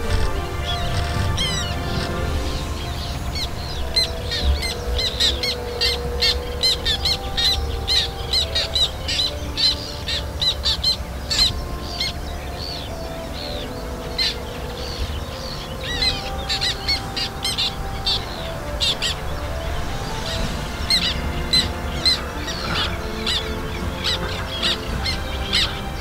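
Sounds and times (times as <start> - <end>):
terns calling: 0.0 - 26.0.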